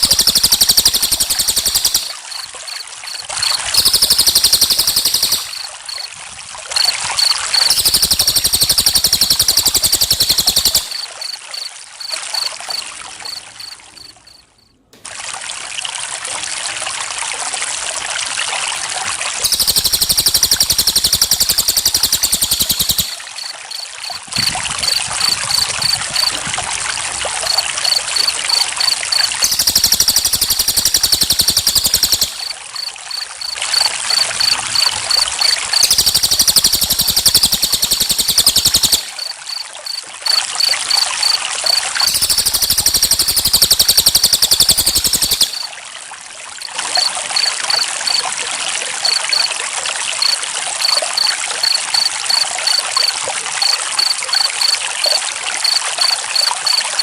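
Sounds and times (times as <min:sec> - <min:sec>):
crickets chirping: 0:00.0 - 0:06.1, 0:06.7 - 0:14.7, 0:18.8 - 0:45.7, 0:46.6 - 0:48.3, 0:49.0 - 0:49.5, 0:50.2 - 0:57.0
fast insect trill: 0:00.0 - 0:06.1, 0:06.8 - 0:14.4, 0:19.4 - 0:26.6, 0:27.4 - 0:45.7, 0:46.6 - 0:48.3, 0:49.0 - 0:49.5, 0:50.2 - 0:57.0
running water: 0:00.0 - 0:57.0.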